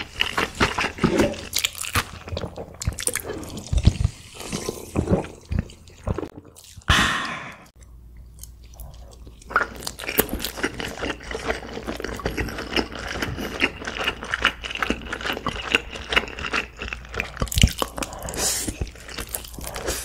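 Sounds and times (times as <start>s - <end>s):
crunchy food chewing: 0.0s - 6.9s, 8.4s - 20.0s.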